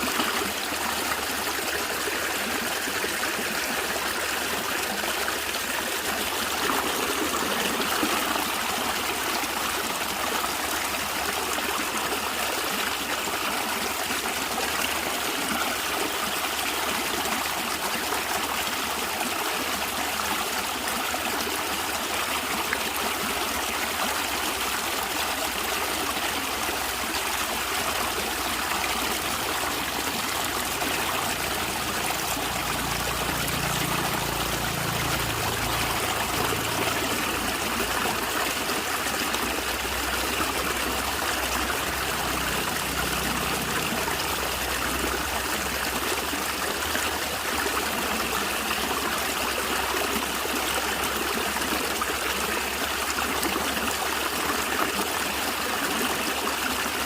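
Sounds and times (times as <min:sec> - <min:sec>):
stream trickling and gurgling: 0:00.0 - 0:57.0.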